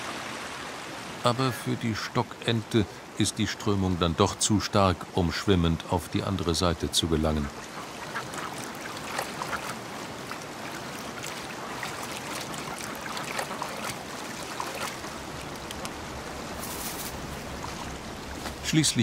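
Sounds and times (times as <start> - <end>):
river rushing with splashes: 0.0 - 19.0.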